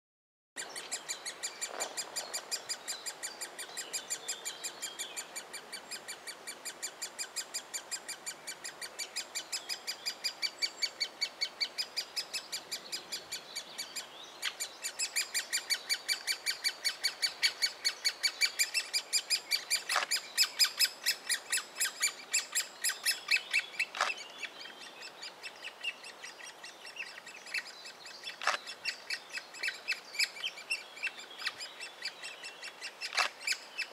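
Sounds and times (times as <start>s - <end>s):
nestlings begging calls: 0.6s - 33.9s.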